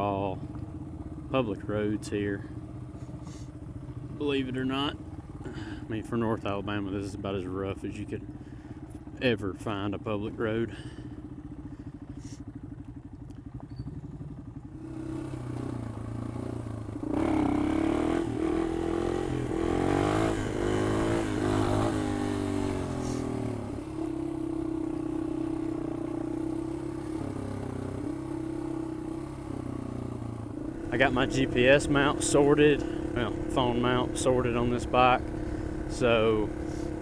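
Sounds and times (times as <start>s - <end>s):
motorcycle engine revving: 0.0s - 9.2s, 9.8s - 37.0s.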